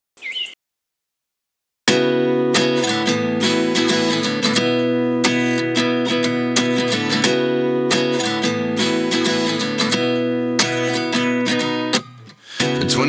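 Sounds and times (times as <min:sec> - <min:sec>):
strummed guitar chords: 0:01.9 - 0:13.0.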